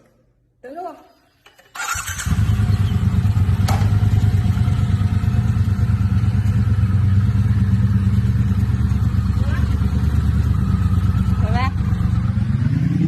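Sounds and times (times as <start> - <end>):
motorcycle engine idling: 1.8 - 12.7.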